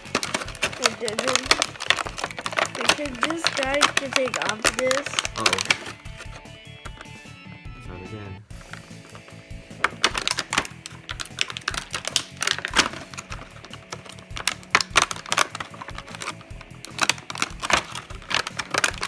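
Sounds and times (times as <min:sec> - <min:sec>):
plastic wrapping crinkling: 0:00.0 - 0:07.2, 0:08.5 - 0:19.0.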